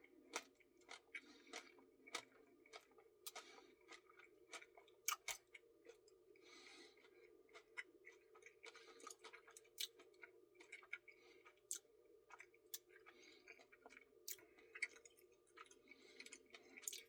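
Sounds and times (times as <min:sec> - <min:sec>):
faint steady hum: 0:00.0 - 0:17.0
wet chewing and lip smacks: 0:00.3 - 0:17.0.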